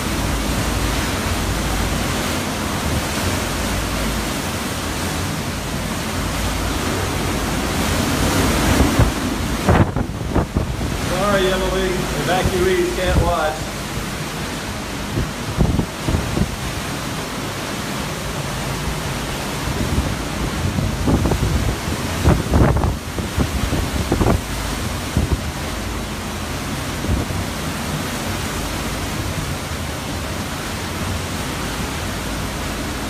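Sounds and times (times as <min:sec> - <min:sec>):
strong wind blowing: 0:00.0 - 0:33.0
wind gusts buffeting microphone: 0:00.0 - 0:33.0.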